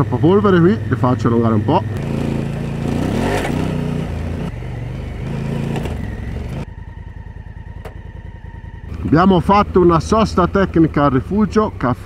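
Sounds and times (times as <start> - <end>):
motorcycle engine idling: 0.0 - 12.0
motorcycle engine revving uphill: 0.0 - 12.0.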